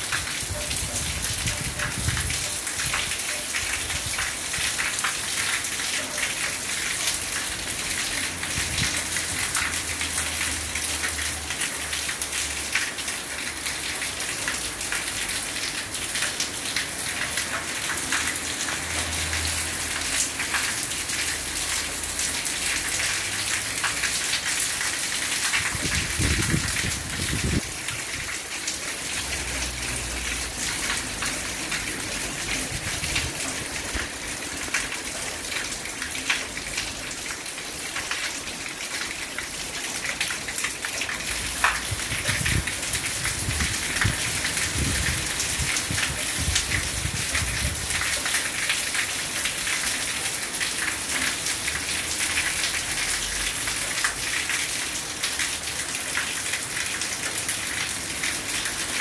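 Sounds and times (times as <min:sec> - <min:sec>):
raindrops pattering on surfaces: 0:00.0 - 0:59.0.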